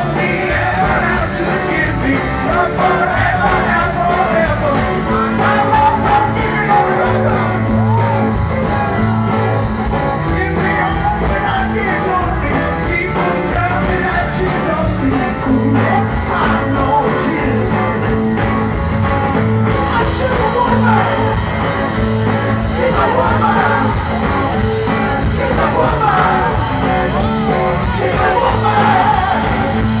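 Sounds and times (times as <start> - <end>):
person singing lead vocal: 0.0 - 19.0, 19.6 - 30.0
live rock band: 0.0 - 30.0.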